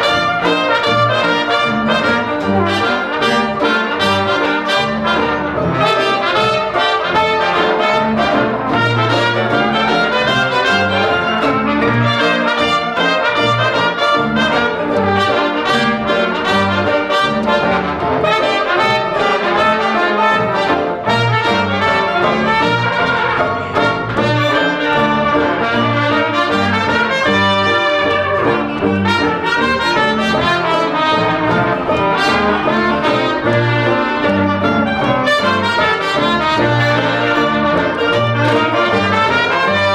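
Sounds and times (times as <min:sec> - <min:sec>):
jazz band playing live: 0:00.0 - 0:39.9.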